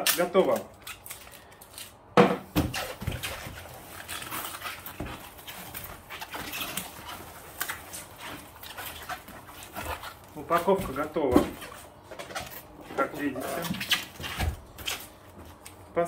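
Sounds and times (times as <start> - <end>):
stretch film crinkling: 0.0 - 16.0.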